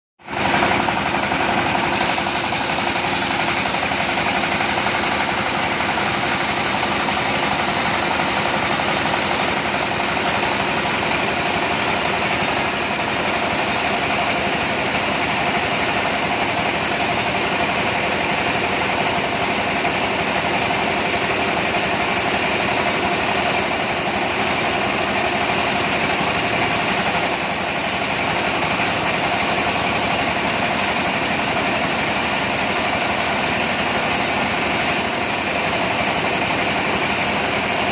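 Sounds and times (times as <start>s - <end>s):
machine running with steady hum: 0.2s - 37.9s.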